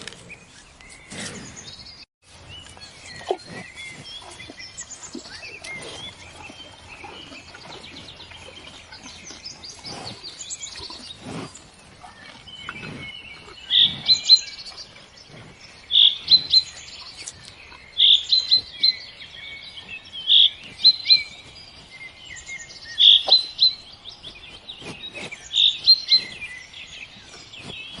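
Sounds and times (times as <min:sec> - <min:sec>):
birds chirping and singing: 0:00.0 - 0:28.0.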